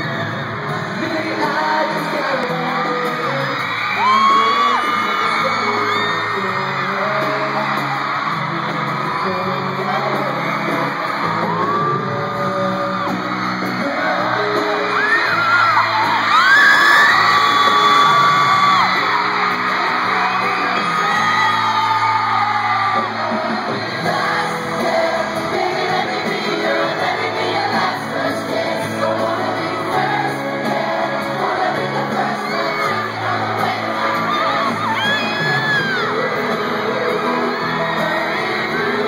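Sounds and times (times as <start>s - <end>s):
crowd screaming and whooping: 0.0s - 39.0s
live band music: 0.0s - 39.0s
male vocal group singing: 0.0s - 39.0s.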